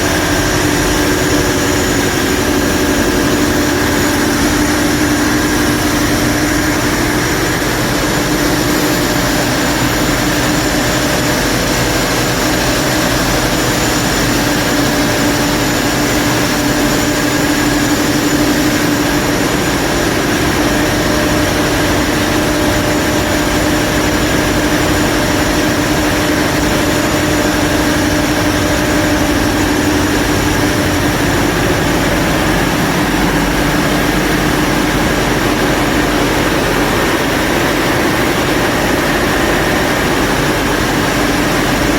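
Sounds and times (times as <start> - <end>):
diesel engine drone: 0.0 - 41.9.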